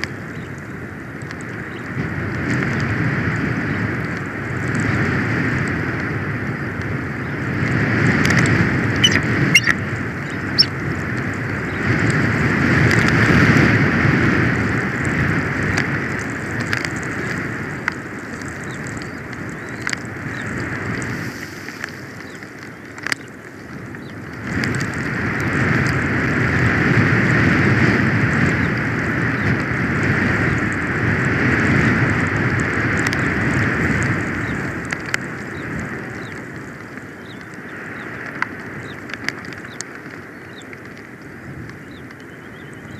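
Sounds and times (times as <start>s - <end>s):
sharp ticks and clicks: 0.0s - 31.1s, 32.0s - 42.9s
wind gusting against microphone: 0.0s - 42.9s.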